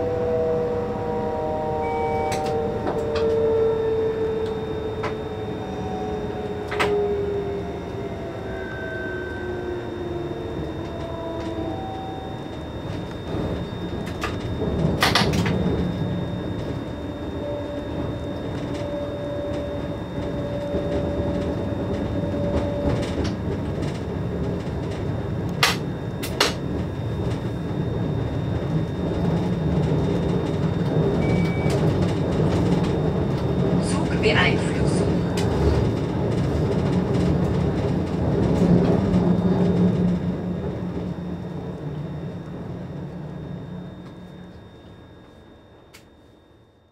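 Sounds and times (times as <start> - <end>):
electric drive whine: 0.0 - 46.9
locomotive running noise: 0.0 - 46.9.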